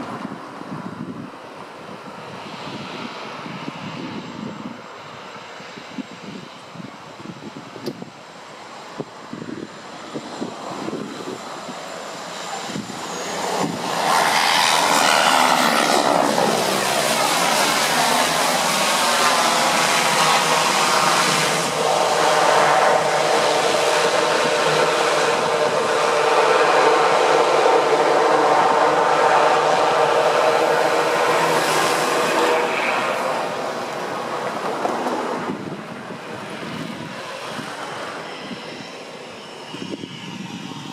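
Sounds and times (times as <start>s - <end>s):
turboprop engine and propeller noise: 0.0s - 40.9s.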